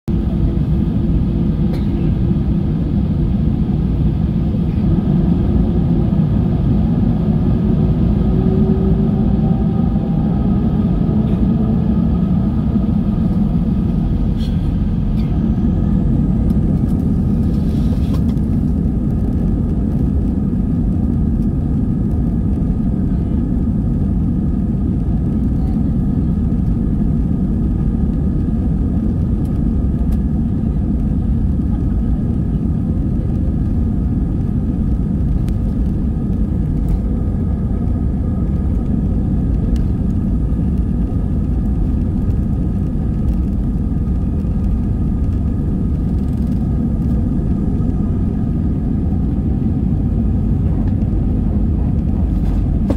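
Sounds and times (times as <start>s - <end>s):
high steady engine hum: 0.1s - 52.9s
jet engines rumbling: 0.1s - 52.9s.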